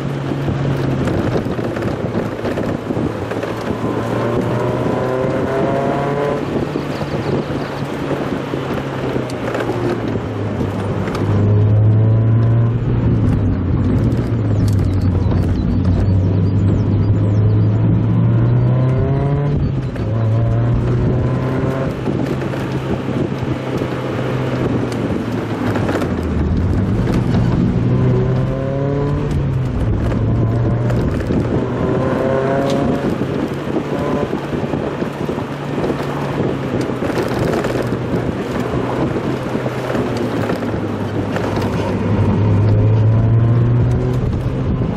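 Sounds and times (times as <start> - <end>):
car engine revving: 0.0 - 44.9
road and wind noise: 0.0 - 44.9.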